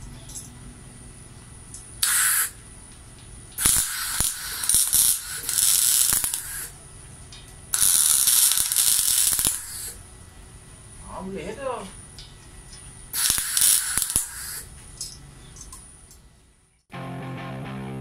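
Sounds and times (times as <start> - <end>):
welding arc crackling: 1.6 - 16.2.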